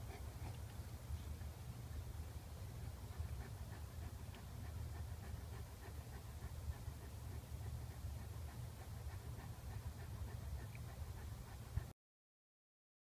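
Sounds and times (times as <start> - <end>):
low steady rumble: 0.0 - 11.9
dog panting: 0.0 - 12.0.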